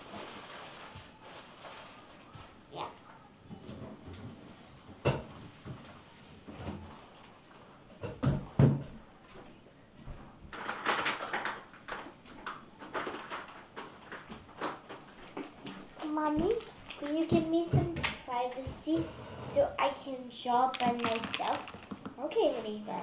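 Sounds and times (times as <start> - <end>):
rustling and shuffling: 0.0 - 23.0.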